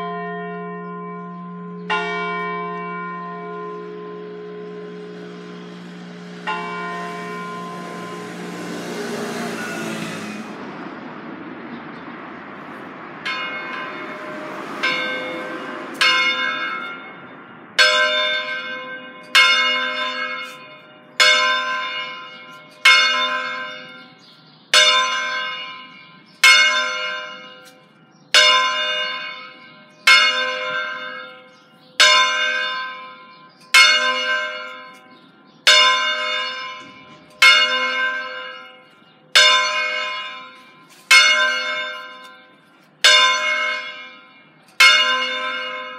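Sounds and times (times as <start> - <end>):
church bell swinging and ringing: 0.0 - 45.9.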